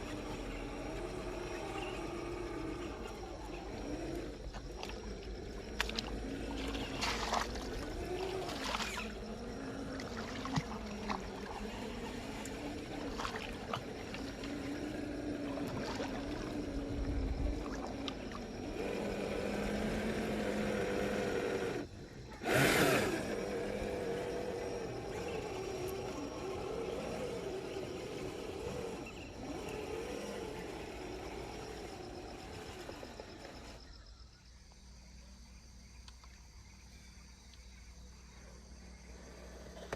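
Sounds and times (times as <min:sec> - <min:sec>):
rc car motor whining: 0:00.0 - 0:34.4.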